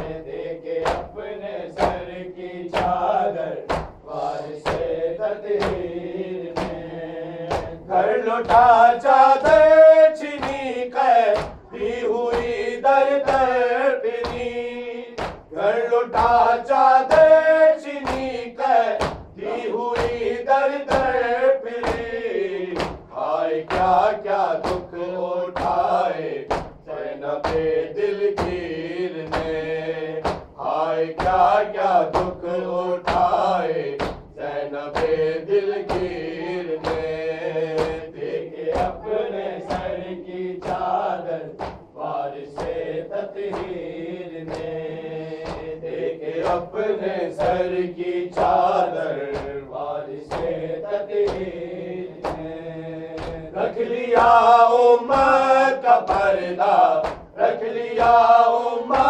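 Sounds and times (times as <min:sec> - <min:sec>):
men chanting in unison: 0:00.0 - 0:59.0.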